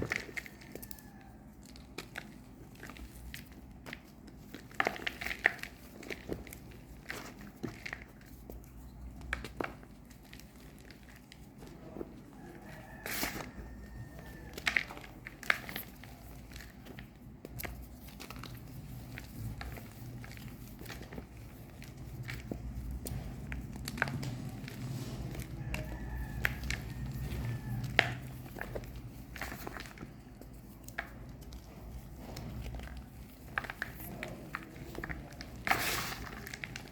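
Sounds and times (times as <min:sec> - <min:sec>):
chalk bars crushing and crumbling: 0:00.0 - 0:36.9
low steady rumble: 0:00.0 - 0:36.9.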